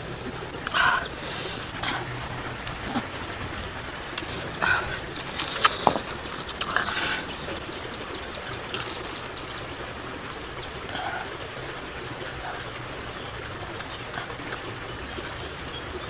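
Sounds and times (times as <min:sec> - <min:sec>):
eating sounds: 0:00.0 - 0:16.0
rocky stream rushing: 0:00.0 - 0:16.0.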